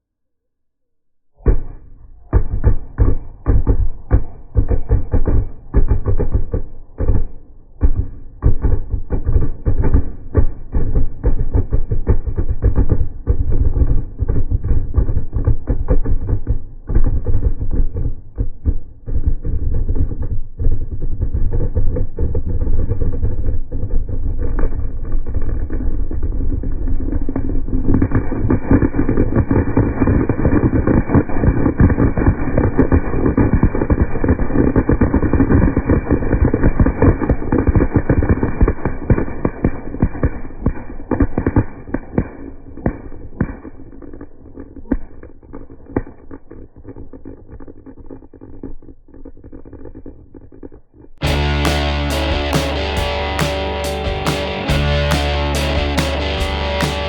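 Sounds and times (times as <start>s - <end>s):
firecrackers crackling: 1.4s - 57.0s.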